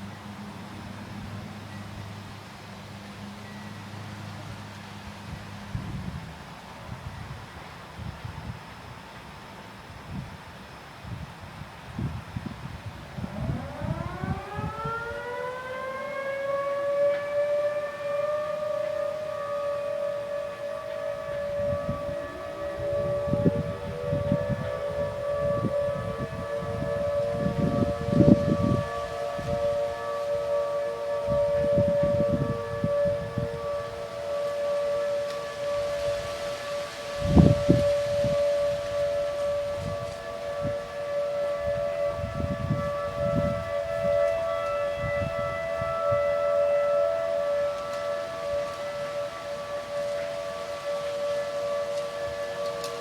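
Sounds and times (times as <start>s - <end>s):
tornado warning sirens: 0.0s - 53.0s
wind on microphone: 5.0s - 9.0s, 9.9s - 17.5s, 18.1s - 53.0s.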